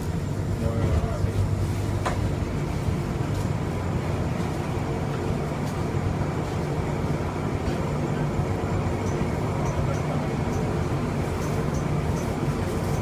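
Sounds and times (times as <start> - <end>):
rail car hum and rumble: 0.0 - 13.0.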